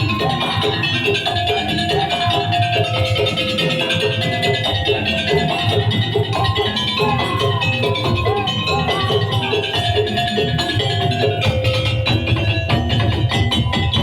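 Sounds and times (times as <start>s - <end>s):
drums and gongs beating: 0.0s - 14.0s
tuned metal percussion melody: 0.0s - 14.0s.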